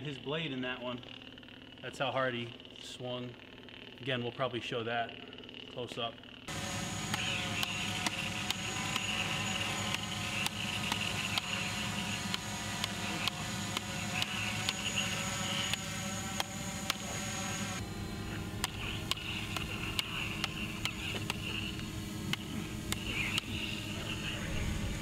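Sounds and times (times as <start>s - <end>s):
electronic lightsaber hum: 0.0s - 25.0s.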